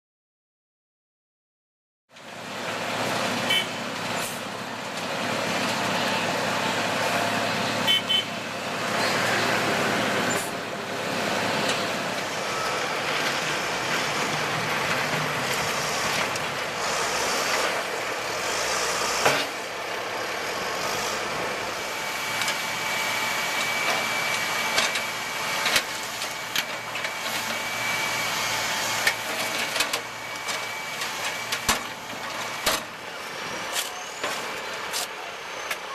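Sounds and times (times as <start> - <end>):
heavy trucks and machinery running: 2.1 - 35.9.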